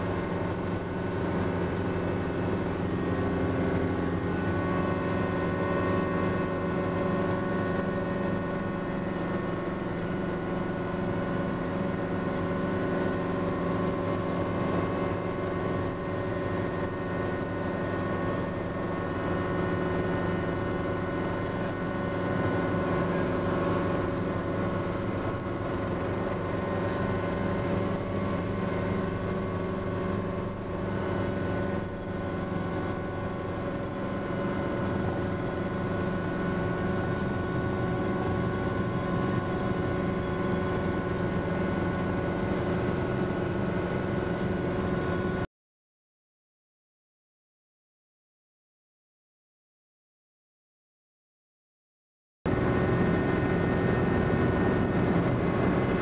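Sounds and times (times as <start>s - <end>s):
helicopter engine and rotors: 0.0s - 45.5s, 52.5s - 56.0s.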